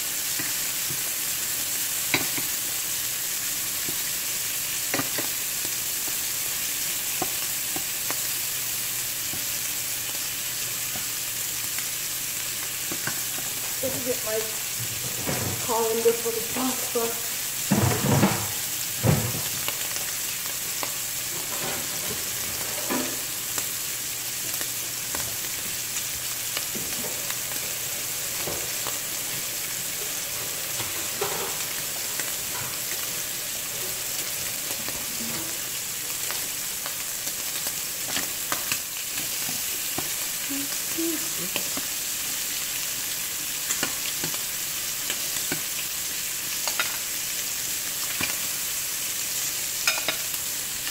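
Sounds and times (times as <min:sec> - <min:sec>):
shrimp sizzling in hot oil: 0:00.0 - 0:50.9.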